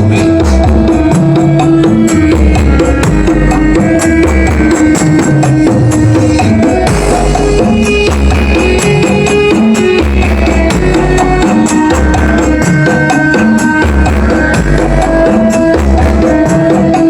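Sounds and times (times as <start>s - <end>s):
loud music with heavy bass and drums: 0.0s - 17.0s.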